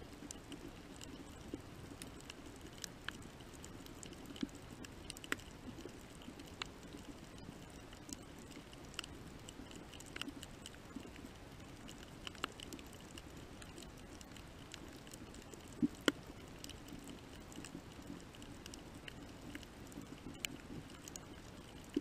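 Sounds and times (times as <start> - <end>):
underwater clicks and crackles: 0.0 - 22.0
underwater hiss and hum: 0.0 - 22.0.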